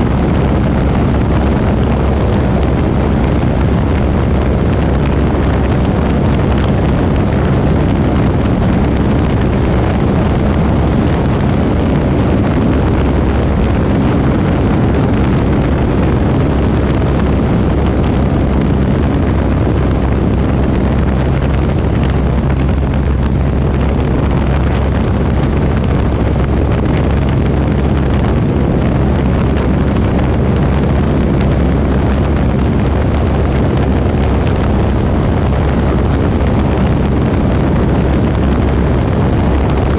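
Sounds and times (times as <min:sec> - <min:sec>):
propeller airplane engine drone: 0:00.0 - 0:39.9
wind rushing over microphone: 0:00.0 - 0:39.9.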